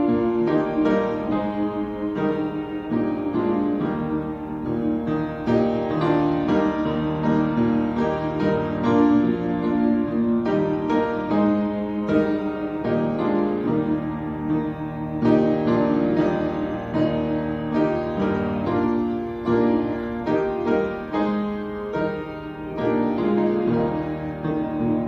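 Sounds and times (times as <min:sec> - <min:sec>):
slow gentle piano piece: 0:00.0 - 0:25.0.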